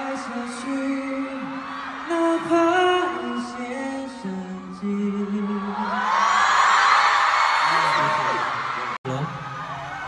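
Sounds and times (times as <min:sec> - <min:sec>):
audience screaming and cheering: 0:00.0 - 0:10.0.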